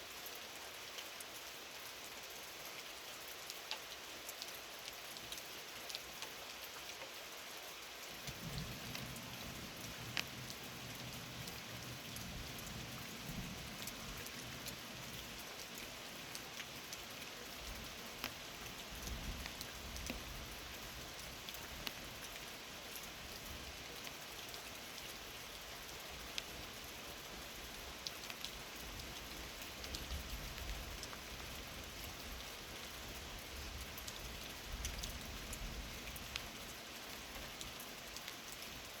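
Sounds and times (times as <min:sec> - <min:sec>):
rain falling: 0:00.0 - 0:39.0.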